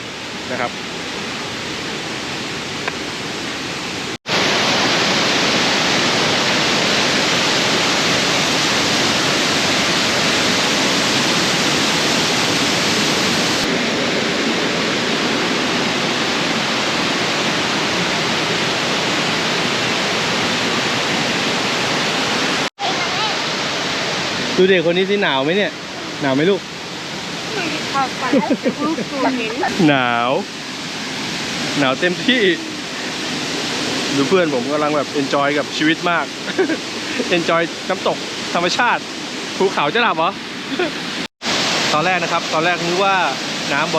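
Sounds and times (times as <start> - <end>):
waterfall rushing and splashing: 0.0 - 43.9.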